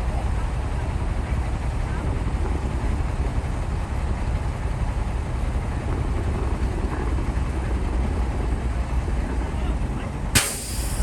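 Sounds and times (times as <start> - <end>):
bulldozer diesel engine rumbling: 0.0 - 11.0.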